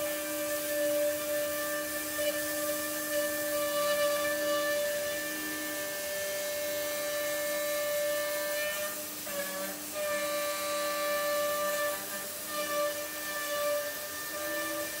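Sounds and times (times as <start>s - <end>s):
hiss of cutting: 0.0s - 15.0s
router spindle whining: 0.0s - 15.0s.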